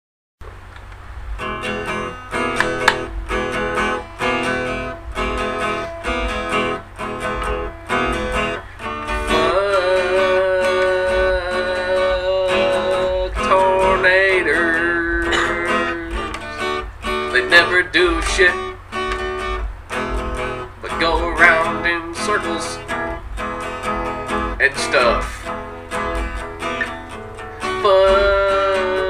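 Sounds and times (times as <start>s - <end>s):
acoustic guitar strumming: 0.4s - 29.0s.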